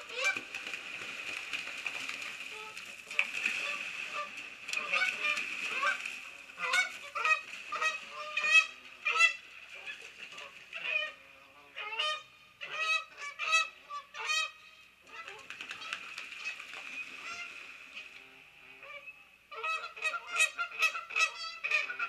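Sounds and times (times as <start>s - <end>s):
geese honking: 0.0s - 0.6s, 2.0s - 22.0s.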